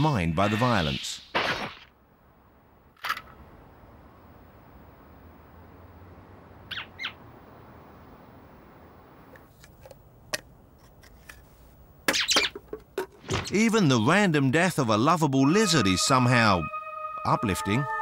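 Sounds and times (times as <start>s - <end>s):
faint steady hiss: 0.0s - 16.6s.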